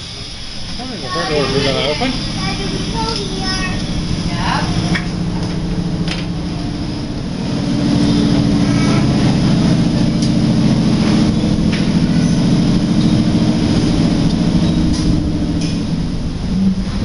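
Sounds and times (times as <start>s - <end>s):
monorail car rumbling drone: 0.0s - 17.0s.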